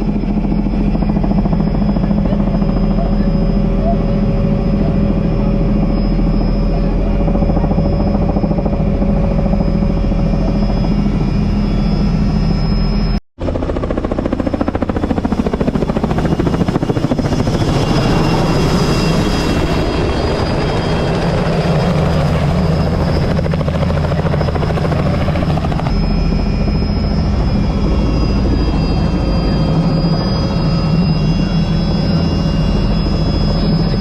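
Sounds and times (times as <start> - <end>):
helicopter rotor beating: 0.0 - 34.0.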